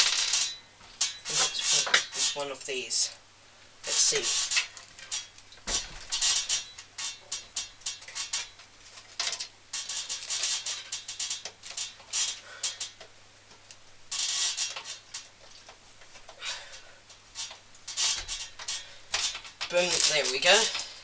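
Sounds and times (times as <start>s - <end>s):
small metal screws rattling: 0.0s - 3.1s, 3.9s - 21.0s.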